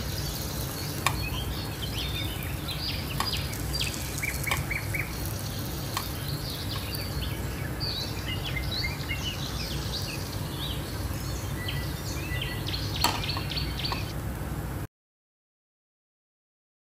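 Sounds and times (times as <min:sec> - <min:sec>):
small birds chirping: 0:00.0 - 0:14.2
steady low rumble: 0:00.0 - 0:14.9.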